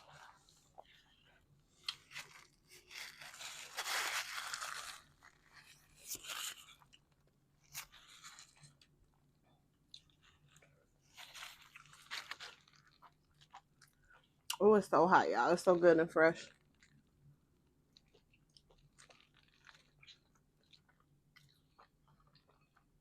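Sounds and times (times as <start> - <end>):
crust crunching while chewing: 0.0 - 9.3, 9.9 - 14.6, 16.4 - 23.0.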